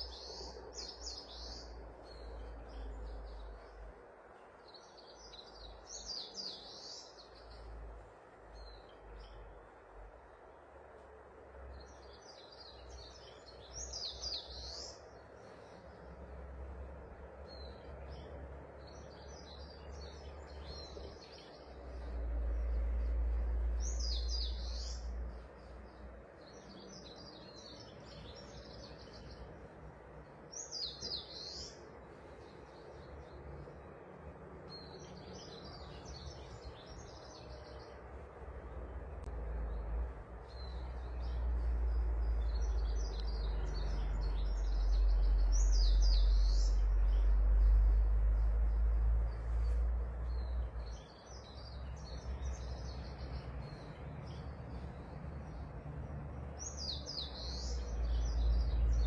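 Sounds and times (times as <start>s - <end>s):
songbird singing: 0.0s - 59.0s
steady background hiss: 0.0s - 59.0s.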